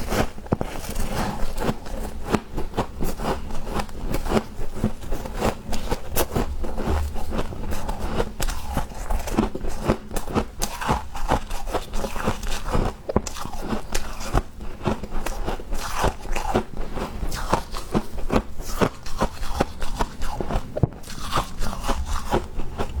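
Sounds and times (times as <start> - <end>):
frost being chewed crunching: 0.0 - 23.0.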